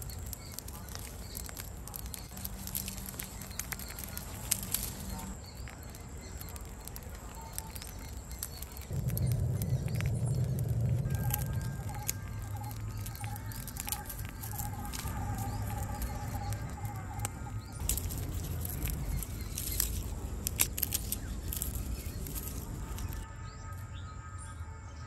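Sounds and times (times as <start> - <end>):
garlic skin crackling peeled: 0.0 - 23.2
steady low rumble: 0.0 - 23.3
bird chirps: 0.0 - 25.0.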